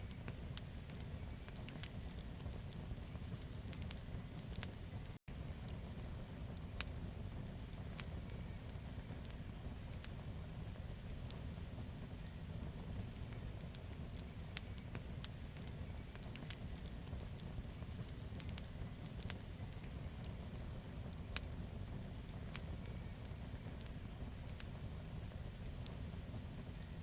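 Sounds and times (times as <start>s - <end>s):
campfire rumble: 0.0s - 27.0s
wood crackling and popping: 0.0s - 27.0s.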